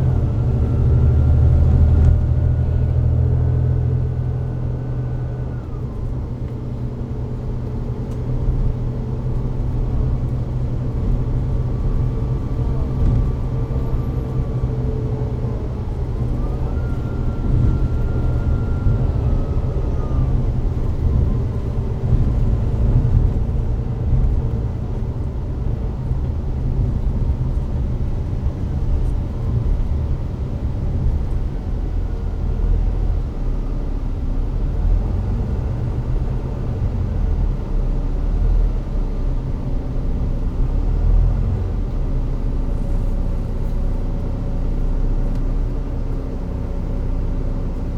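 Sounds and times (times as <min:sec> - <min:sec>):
bus drivetrain rumble: 0:00.0 - 0:47.9
faint drivetrain whine: 0:00.0 - 0:47.9.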